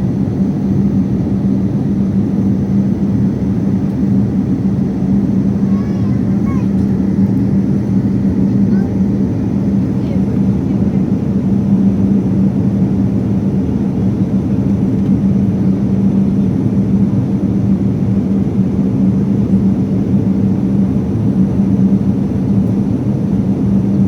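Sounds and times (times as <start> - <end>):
constant low hum: 0.0 - 24.0
jet cabin engine drone: 0.0 - 24.0.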